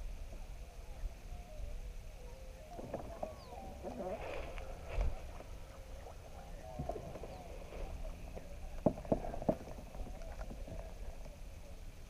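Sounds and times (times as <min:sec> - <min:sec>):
faint wavering calls: 0:00.3 - 0:12.0.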